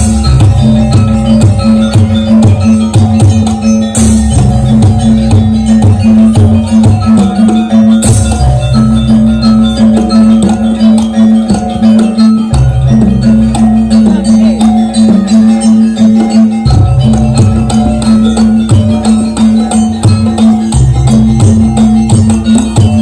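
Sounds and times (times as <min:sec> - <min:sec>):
deep bass layer: 0:00.0 - 0:23.0
drums: 0:00.0 - 0:23.0
held tone: 0:00.0 - 0:23.0
struck metallic percussion: 0:00.0 - 0:23.0.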